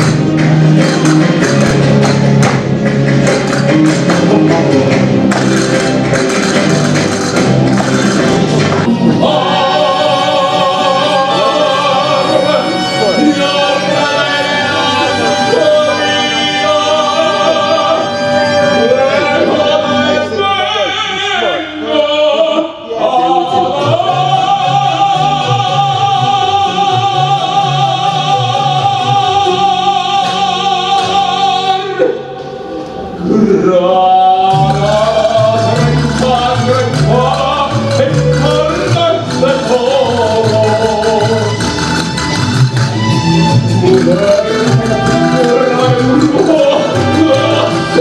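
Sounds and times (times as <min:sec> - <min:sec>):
band playing: 0:00.0 - 0:48.0
man singing: 0:03.3 - 0:06.6, 0:08.8 - 0:32.4, 0:33.2 - 0:41.8, 0:43.7 - 0:48.0.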